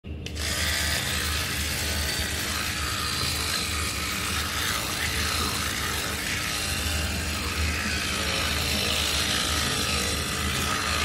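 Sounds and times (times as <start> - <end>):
low pulsing hum: 0.0 - 11.0
electric toothbrush buzzing: 0.2 - 11.0.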